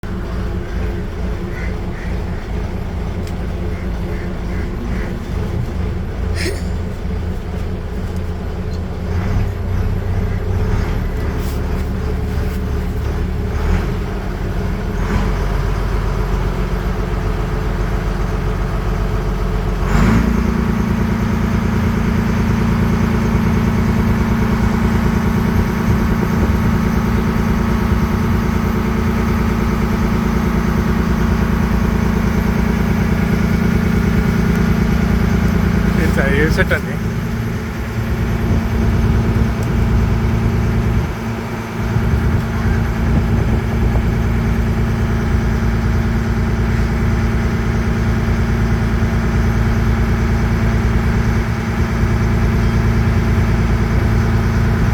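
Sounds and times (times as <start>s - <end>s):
boat engine droning: 0.0s - 54.9s.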